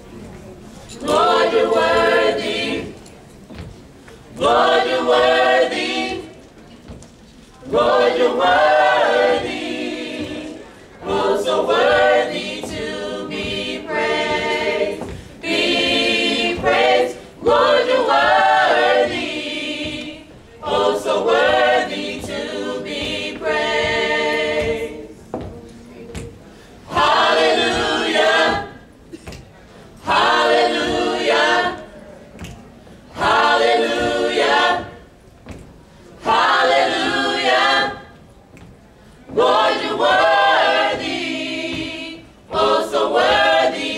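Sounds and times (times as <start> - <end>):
gospel choir singing a cappella: 0.7 - 43.9.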